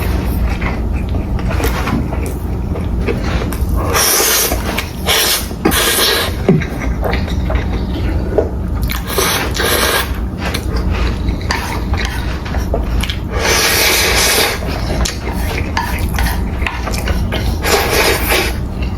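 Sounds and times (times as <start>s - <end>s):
steady low hum: 0.0s - 18.9s
wet chewing and slurping noodles: 0.0s - 18.9s.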